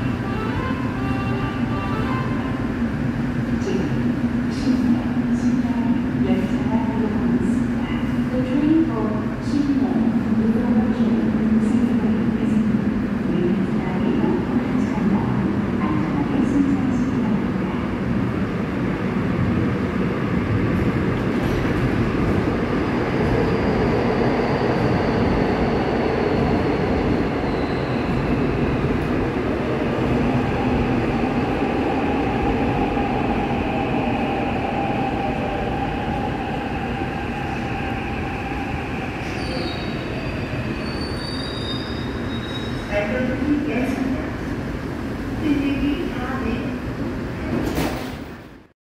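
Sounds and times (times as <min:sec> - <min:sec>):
subway train rumble and whine: 0:00.0 - 0:48.7.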